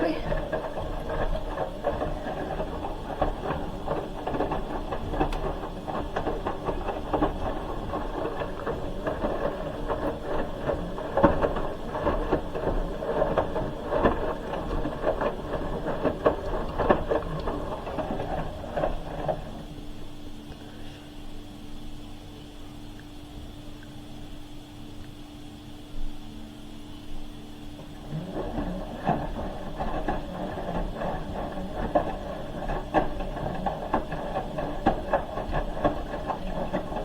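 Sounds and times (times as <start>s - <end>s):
steady low hum: 0.0s - 37.0s
washing machine drum churning: 0.0s - 37.0s.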